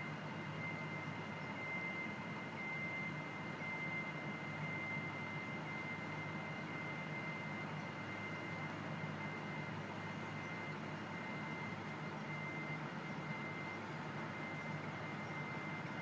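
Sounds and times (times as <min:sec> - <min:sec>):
alarm beeping: 0:00.6 - 0:16.0.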